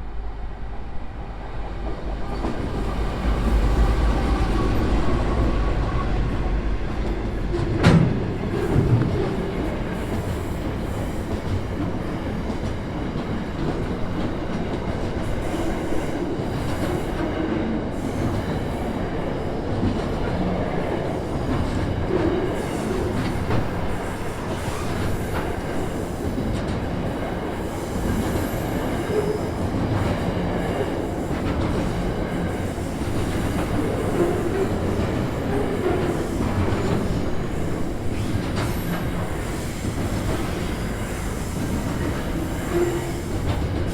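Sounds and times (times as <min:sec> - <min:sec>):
freight train wheels on rails: 0:00.0 - 0:43.9.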